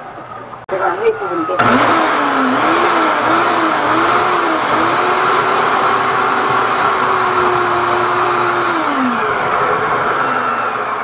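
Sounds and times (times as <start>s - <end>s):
drain-cleaning machine motor: 1.0s - 11.0s.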